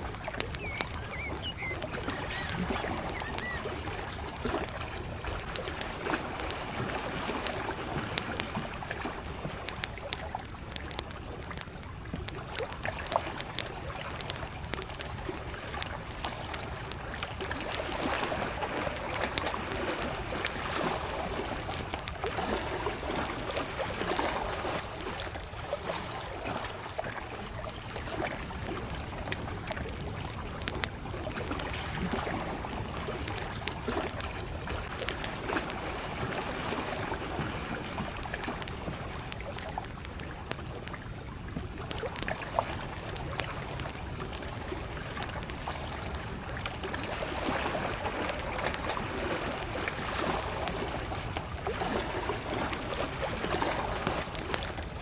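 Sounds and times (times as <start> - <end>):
campfire crackling and popping: 0.0 - 55.0
lake waves lapping at shore: 0.0 - 55.0.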